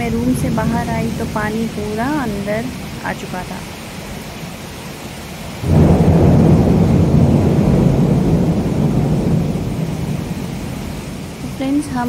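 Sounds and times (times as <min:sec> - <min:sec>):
thunder rumbling: 0:00.0 - 0:04.6, 0:05.5 - 0:12.0
rain: 0:00.0 - 0:12.0
wind: 0:00.0 - 0:12.0.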